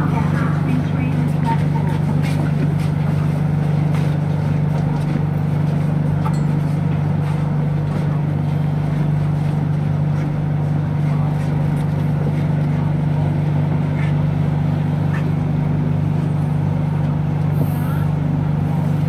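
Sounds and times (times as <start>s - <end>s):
train running hum: 0.0s - 19.0s.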